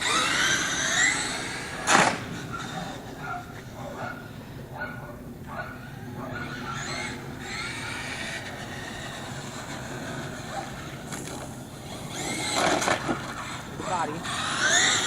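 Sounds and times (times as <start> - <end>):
toy truck electric motor whine: 0.0 - 4.7, 5.8 - 15.0.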